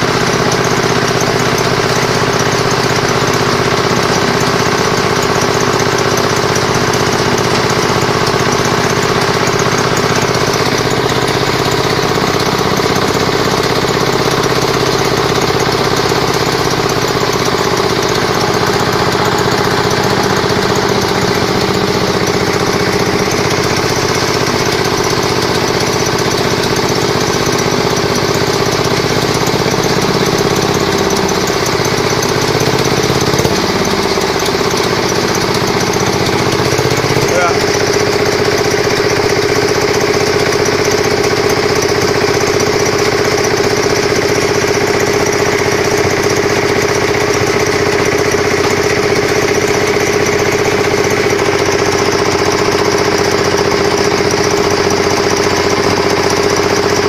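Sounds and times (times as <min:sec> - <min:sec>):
concrete mixer engine chugging: 0:00.0 - 0:57.0.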